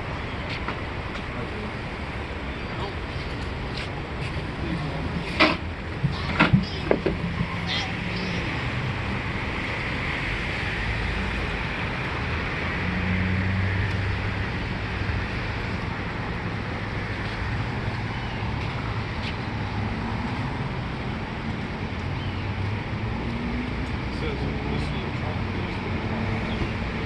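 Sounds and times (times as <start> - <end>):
road noise: 0.0 - 27.0
vehicle engine: 0.0 - 27.0.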